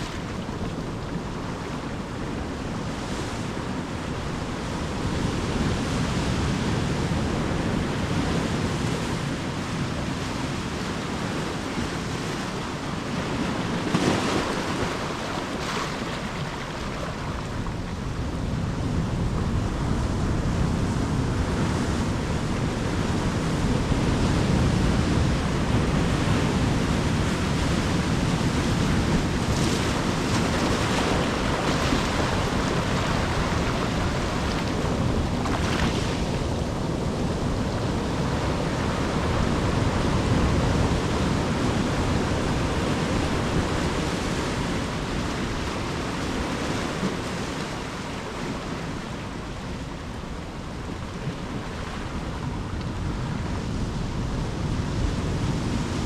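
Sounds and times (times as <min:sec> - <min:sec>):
ocean waves breaking: 0:00.0 - 0:56.0
wind noise on microphone: 0:00.0 - 0:56.0.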